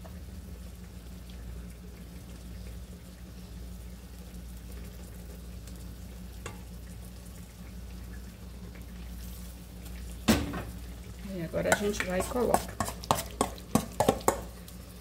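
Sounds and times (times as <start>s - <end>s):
oil frying sizzle: 0.0s - 15.0s.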